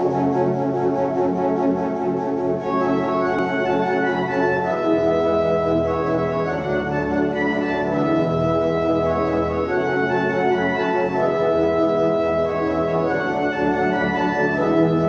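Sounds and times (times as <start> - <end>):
pipe organ sustained chords: 0.0 - 15.0.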